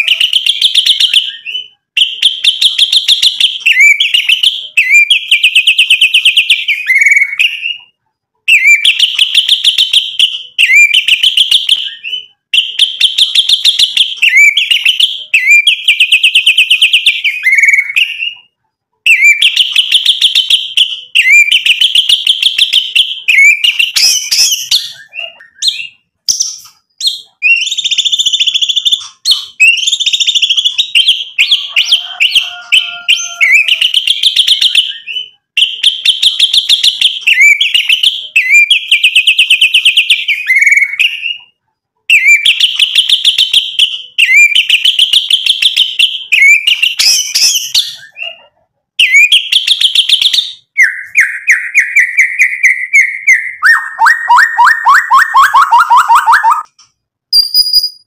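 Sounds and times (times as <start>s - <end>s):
bird singing rattling phrases: 0.0s - 56.7s.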